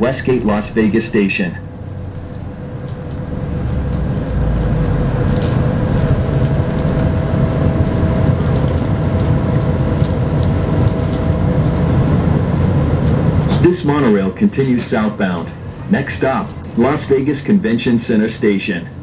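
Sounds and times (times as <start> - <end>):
monorail train rumbling: 0.0 - 19.0
steady whine: 0.0 - 19.0.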